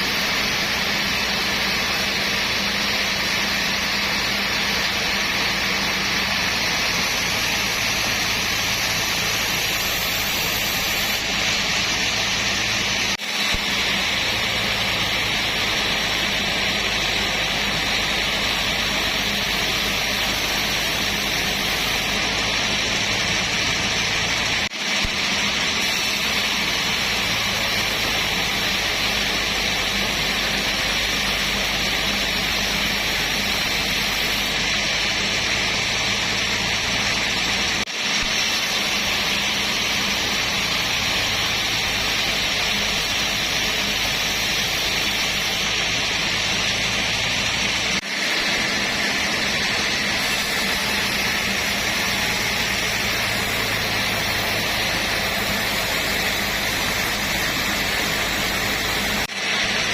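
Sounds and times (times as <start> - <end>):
loud even hiss: 0.0 - 59.9.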